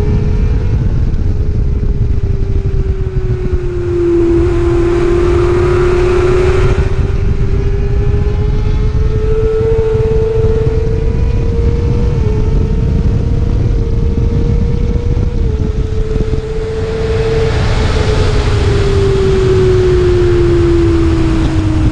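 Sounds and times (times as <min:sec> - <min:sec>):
racing motorcycle engine high revs: 0:00.0 - 0:21.9
wind rush: 0:00.0 - 0:21.9.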